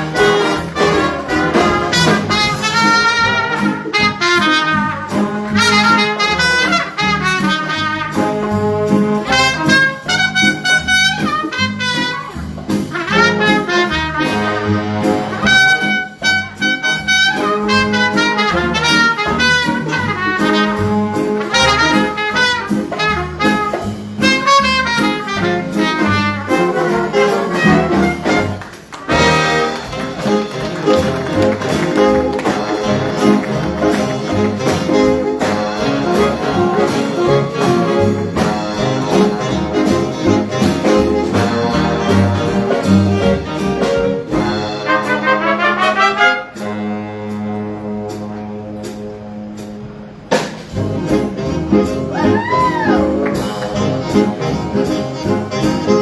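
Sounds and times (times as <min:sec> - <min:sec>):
jazz big band playing: 0:00.0 - 0:56.0.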